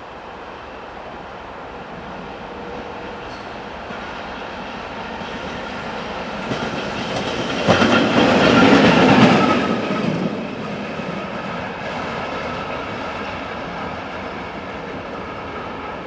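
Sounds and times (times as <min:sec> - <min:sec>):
locomotive engine hum: 0:00.0 - 0:16.0.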